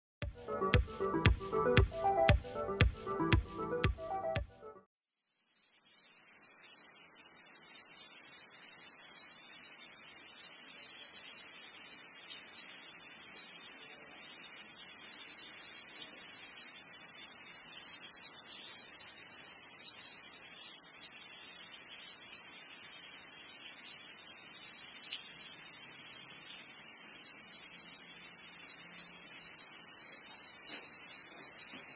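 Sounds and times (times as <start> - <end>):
water hissing from hose leak: 5.3 - 31.9.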